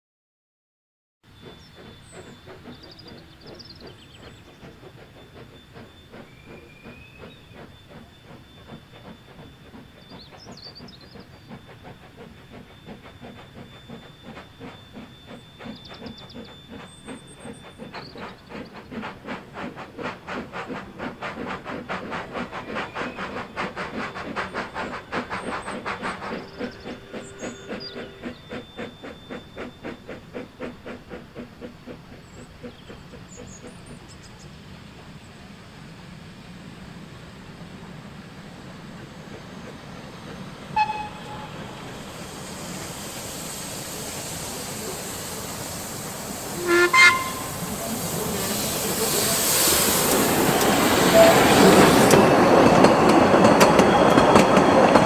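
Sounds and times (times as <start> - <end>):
distant steam locomotive chuffing: 1.2 - 55.0.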